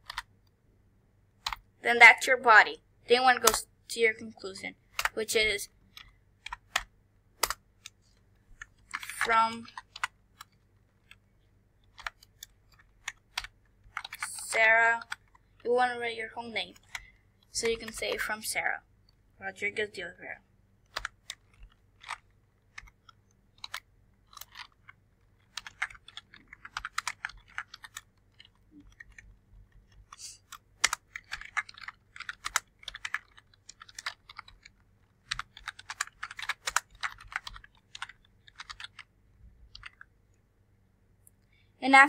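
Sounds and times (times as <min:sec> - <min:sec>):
computer keyboard typing: 0:00.0 - 0:00.6, 0:01.4 - 0:01.7, 0:03.1 - 0:11.2, 0:11.8 - 0:19.2, 0:20.8 - 0:40.1.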